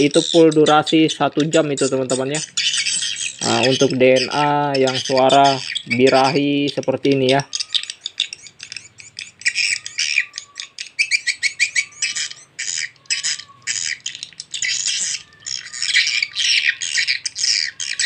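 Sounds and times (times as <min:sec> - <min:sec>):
recorded bird chirps through tweeters: 0:00.0 - 0:18.0.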